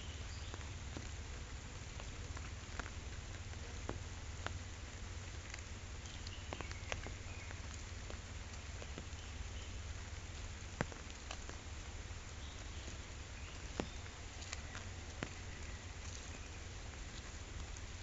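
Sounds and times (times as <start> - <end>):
rain falling on a pond: 0.0 - 18.0
raindrops ticking: 0.0 - 18.0.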